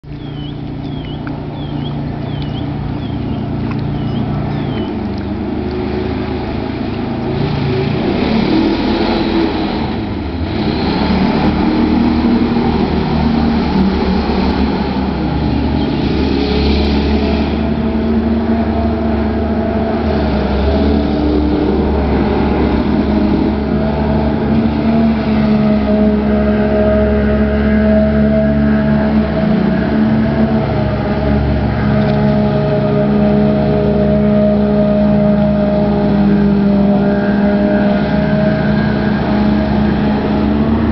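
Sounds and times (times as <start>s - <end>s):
jet boat engine running hard: 0.1s - 40.9s.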